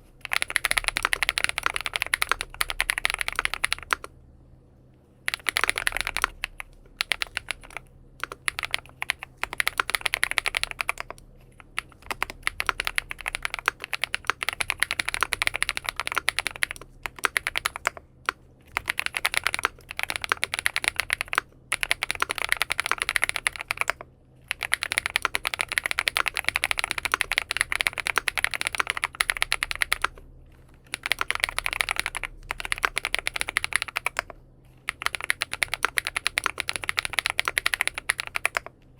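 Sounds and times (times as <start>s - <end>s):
fast typing on mechanical keyboard: 0.0s - 4.1s, 5.3s - 38.8s.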